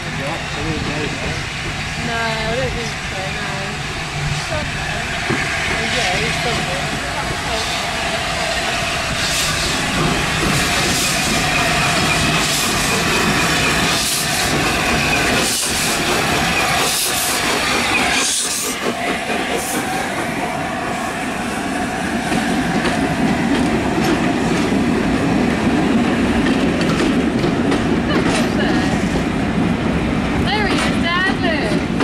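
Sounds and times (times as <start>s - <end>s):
steam train coasting: 0.0s - 32.0s.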